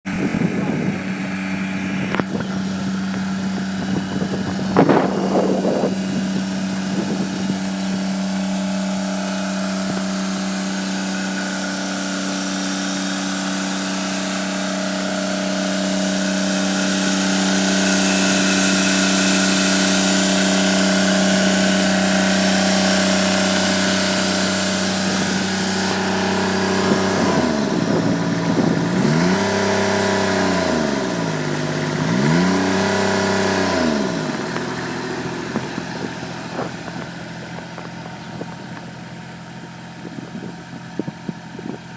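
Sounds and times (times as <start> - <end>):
mower diesel engine running: 0.0 - 41.9.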